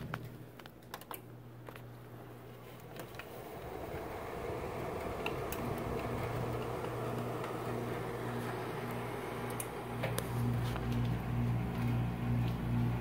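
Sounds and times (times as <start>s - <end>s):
low steady hum: 0.0s - 13.0s
air conditioner blower rushing air: 1.2s - 13.0s.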